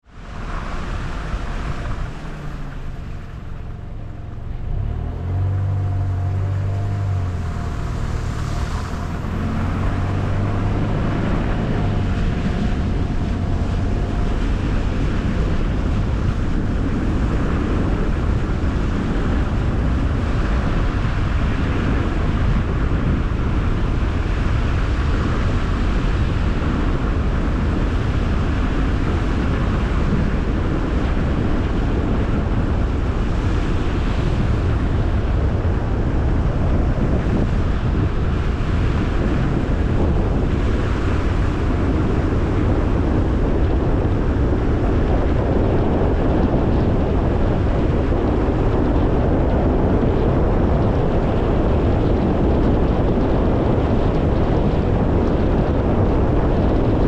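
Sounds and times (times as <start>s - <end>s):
car engine hum: 0.0s - 57.0s
tyre and road noise: 0.0s - 57.0s.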